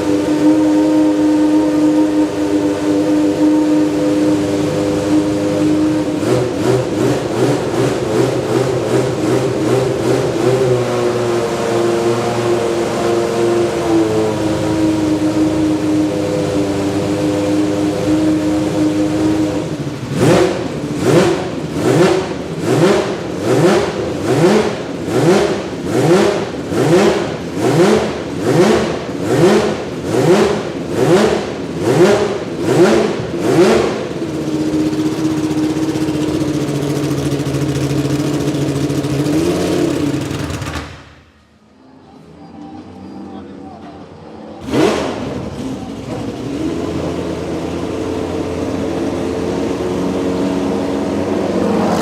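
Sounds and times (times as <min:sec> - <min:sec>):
race car engine revving: 0:00.0 - 0:41.7, 0:44.4 - 0:52.0.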